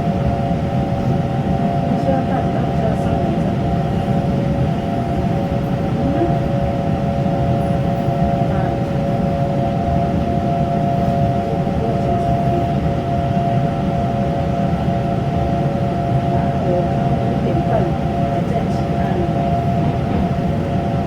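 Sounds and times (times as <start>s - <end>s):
electric train rumble: 0.0s - 21.0s
train whine of held notes: 0.0s - 21.0s.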